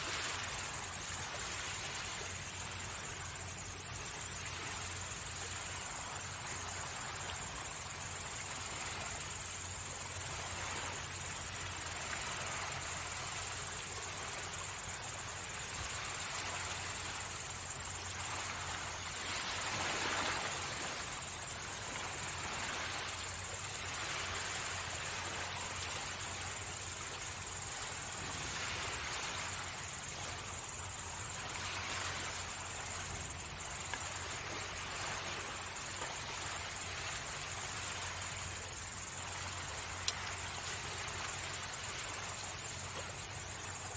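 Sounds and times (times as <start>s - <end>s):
night insects chirring: 0.0s - 43.9s
small waves washing on shore: 0.0s - 43.9s.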